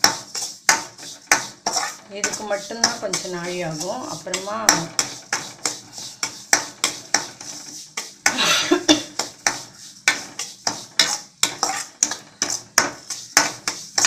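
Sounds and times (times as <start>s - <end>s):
metal spoon scraping a pan: 0.0s - 14.0s.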